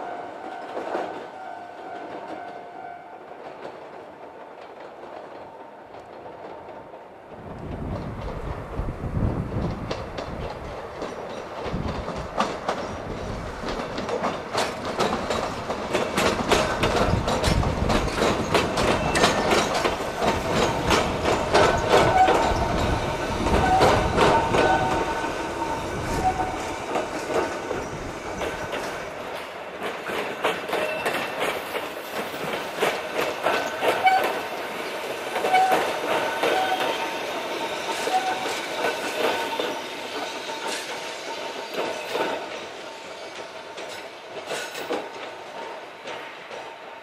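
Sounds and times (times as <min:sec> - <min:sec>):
heavy train rumble: 0:00.0 - 0:47.0
wheels clicking over rail joints: 0:03.3 - 0:46.8.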